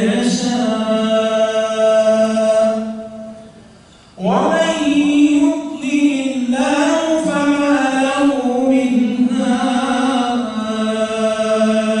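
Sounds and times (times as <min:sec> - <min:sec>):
man chanting recitation: 0:00.0 - 0:03.4, 0:04.2 - 0:12.0.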